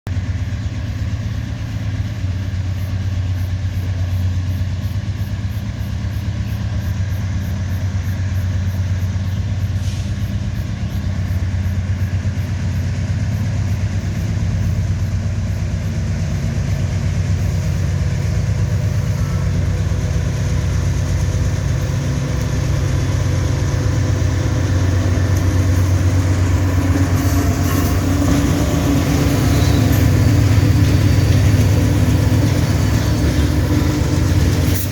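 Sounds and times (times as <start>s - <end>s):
locomotive engines humming: 0.1s - 34.9s.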